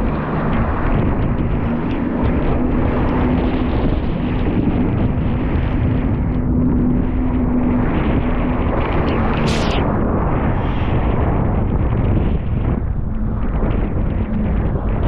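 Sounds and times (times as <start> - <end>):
jet ski engine drone: 0.0 - 15.0
wind on microphone: 0.0 - 15.0.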